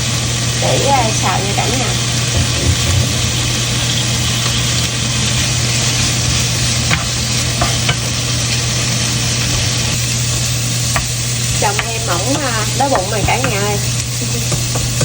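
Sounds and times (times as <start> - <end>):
food sizzling in frying pan: 0.0 - 15.0
steady low hum: 0.0 - 15.0.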